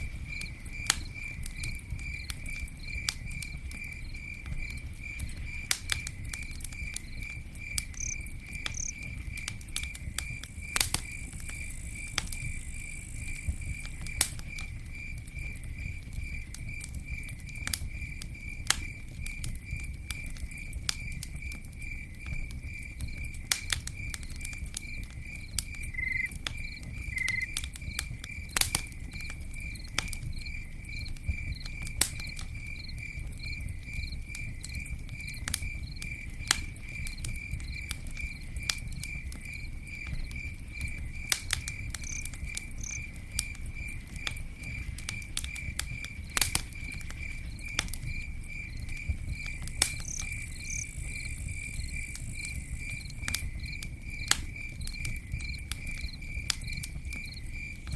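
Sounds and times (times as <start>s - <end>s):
campfire crackling and popping: 0.0s - 57.9s
cricket chirping: 0.0s - 57.9s.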